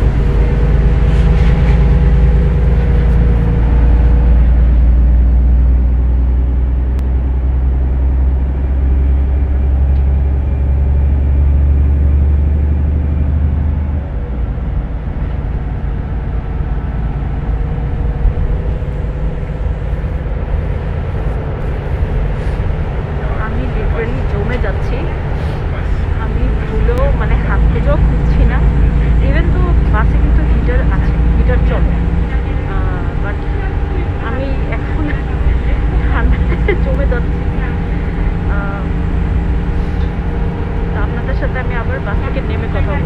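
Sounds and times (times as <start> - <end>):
bus engine rumble: 0.0 - 43.0
steady hum: 0.0 - 43.0.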